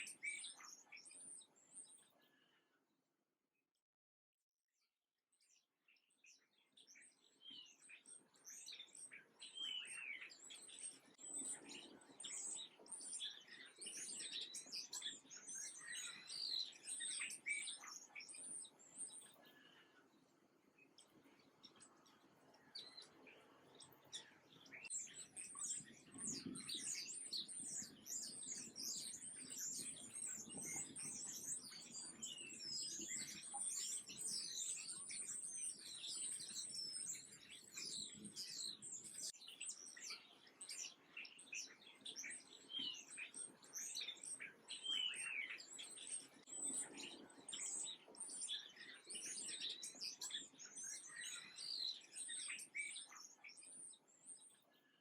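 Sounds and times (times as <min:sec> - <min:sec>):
songbirds chirping and twittering: 0:00.0 - 0:03.0, 0:05.3 - 0:55.0.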